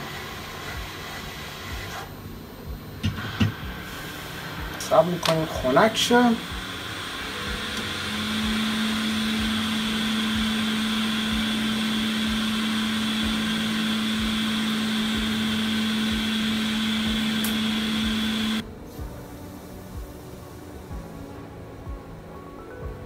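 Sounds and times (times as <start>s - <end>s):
electric fan humming and whining: 0.0s - 23.0s.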